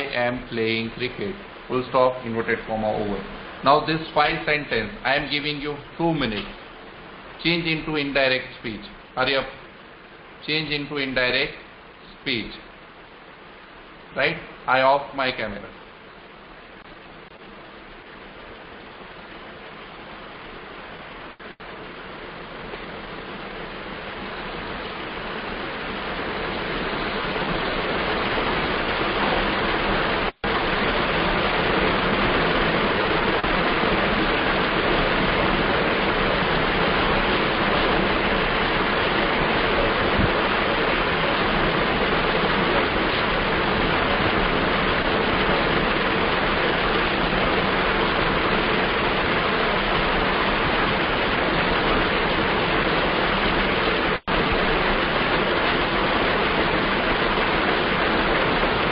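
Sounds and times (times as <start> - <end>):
loud steady hiss: 0.0 - 58.9.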